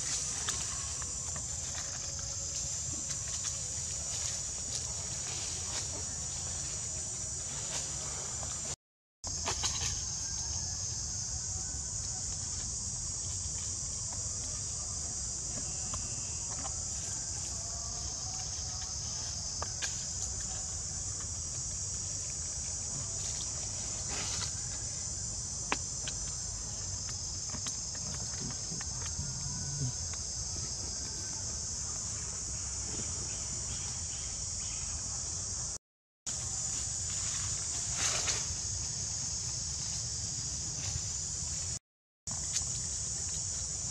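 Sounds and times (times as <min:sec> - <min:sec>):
insect chorus drone: 0:00.0 - 0:43.9.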